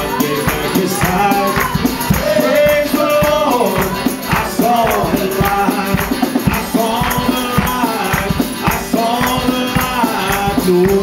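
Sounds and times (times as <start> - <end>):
acoustic guitar strumming: 0.0 - 11.0
drum kit beat: 0.0 - 11.0
man singing: 0.0 - 11.0.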